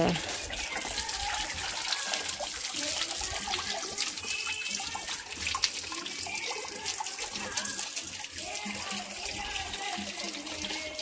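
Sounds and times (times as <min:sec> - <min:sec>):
water running from a spout: 0:00.0 - 0:11.0.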